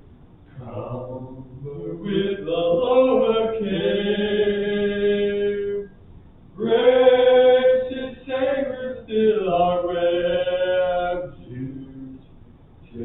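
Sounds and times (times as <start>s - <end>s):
unaccompanied hymn singing: 0.5s - 6.0s, 6.6s - 12.3s.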